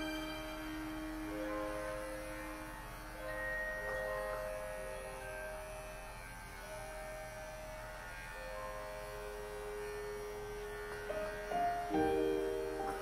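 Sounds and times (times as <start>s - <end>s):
soft music of long held notes: 0.0s - 13.0s.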